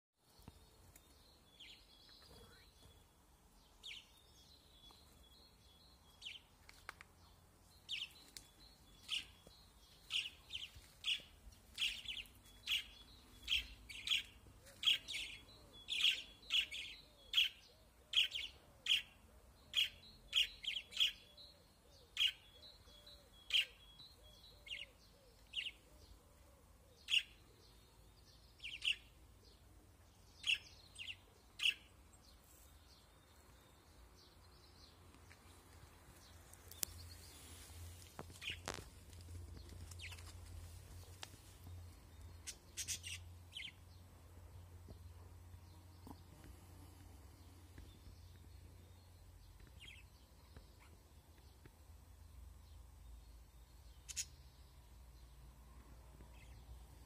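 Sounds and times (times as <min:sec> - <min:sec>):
small birds chirping: 0:00.2 - 0:57.0.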